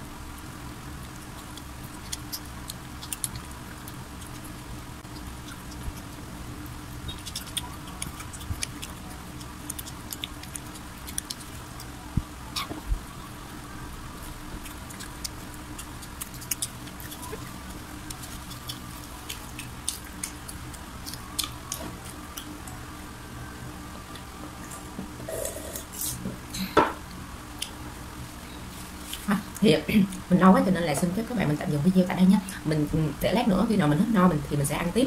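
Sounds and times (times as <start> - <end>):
steady low hum: 0.0 - 35.0
chewing crispy fried chicken: 0.3 - 26.2, 27.2 - 30.3.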